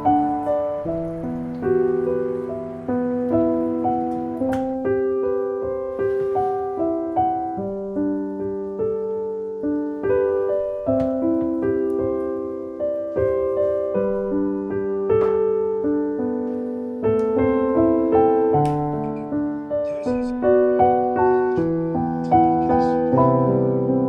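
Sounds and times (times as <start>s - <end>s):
gentle piano melody: 0.0s - 24.0s.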